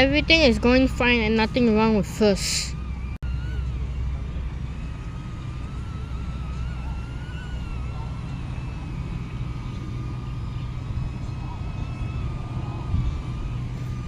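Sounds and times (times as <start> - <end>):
drone propellers whining: 0.0 - 14.0
wind rumble on microphone: 0.0 - 14.0.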